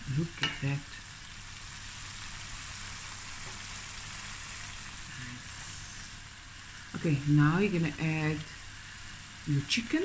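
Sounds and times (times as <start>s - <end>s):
spice paste sizzling in a pan: 0.0s - 10.0s.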